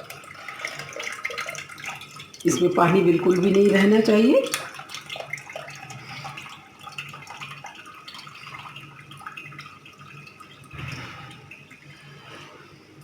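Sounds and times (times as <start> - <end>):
water dripping and trickling: 0.0 - 12.6.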